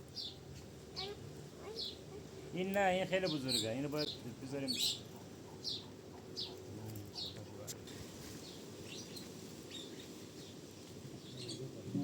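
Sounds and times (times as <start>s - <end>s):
small bird chirping: 0.0s - 10.6s, 11.2s - 11.7s.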